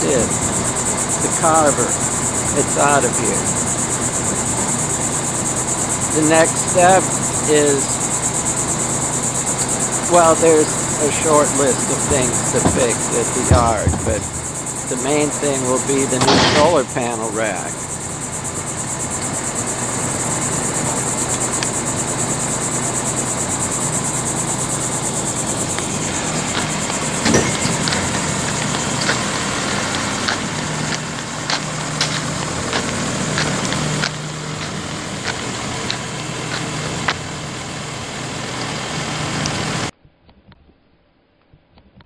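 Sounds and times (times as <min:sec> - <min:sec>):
high insect buzz: 0:00.0 - 0:39.9
vehicle engine idling: 0:00.0 - 0:39.9.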